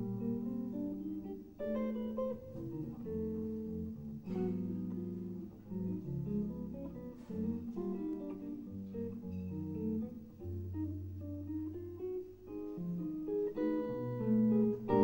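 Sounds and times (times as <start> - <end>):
electric jazz guitar duet: 0.0 - 15.0.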